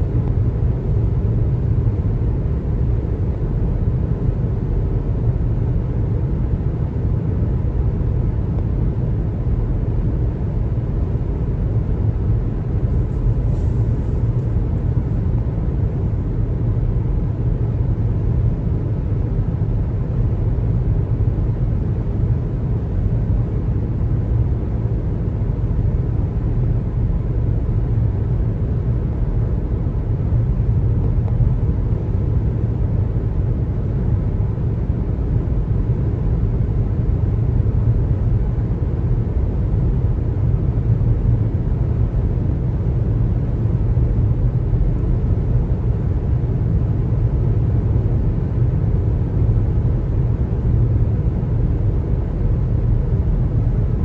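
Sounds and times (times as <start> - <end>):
car road noise on highway: 0.0 - 54.0.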